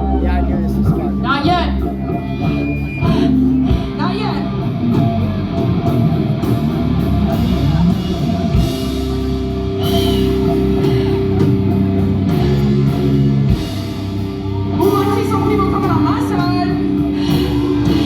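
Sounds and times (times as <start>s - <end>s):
drum kit: 0.0s - 18.0s
electric guitar: 0.0s - 18.0s.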